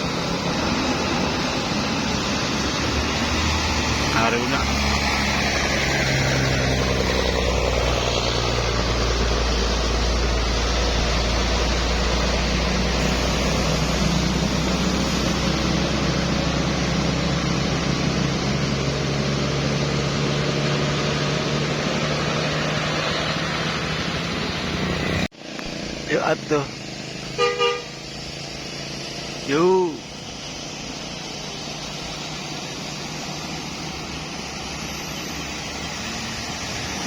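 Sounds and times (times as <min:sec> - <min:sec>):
road noise: 0:00.0 - 0:37.0
vehicle engines under load: 0:00.0 - 0:37.0.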